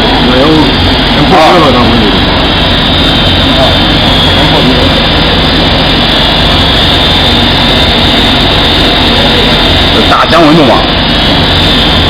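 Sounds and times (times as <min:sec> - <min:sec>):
machinery humming and whining: 0:00.0 - 0:12.0.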